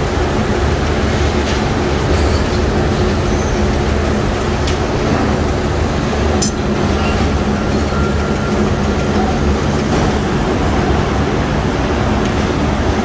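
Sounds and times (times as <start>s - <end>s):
rolling mill machinery rumbling: 0.0s - 13.0s.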